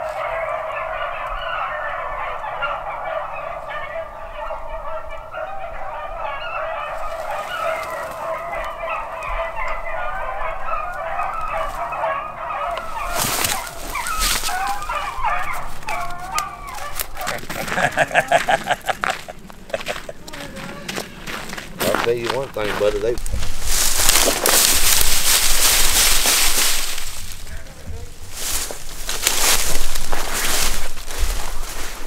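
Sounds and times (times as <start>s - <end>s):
hounds baying: 0.0s - 32.0s.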